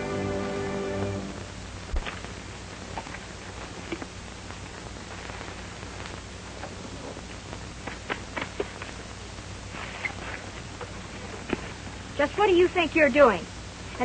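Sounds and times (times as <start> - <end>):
low hum: 0.0 - 12.9
film soundtrack hiss: 0.0 - 14.0.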